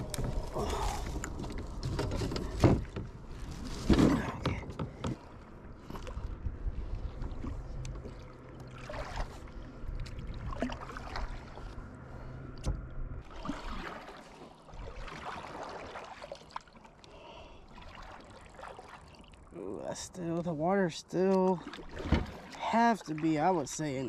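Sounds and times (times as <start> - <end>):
low steady hum: 0.0 - 24.0
water splashing around kayak: 0.0 - 24.0.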